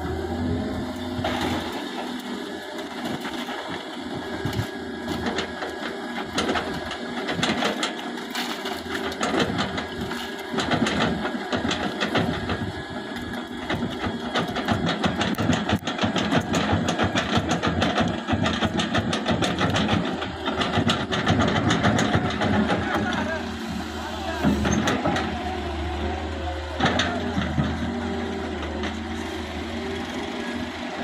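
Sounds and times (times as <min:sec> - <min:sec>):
engine running with even clatter: 0:00.0 - 0:31.0.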